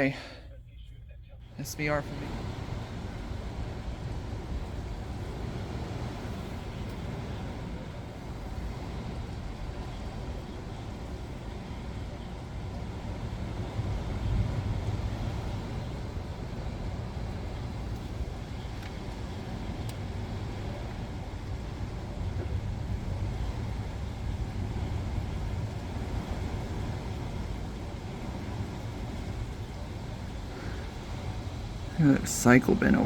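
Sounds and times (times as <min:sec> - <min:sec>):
wind gusts buffeting microphone: 0:01.5 - 0:33.0.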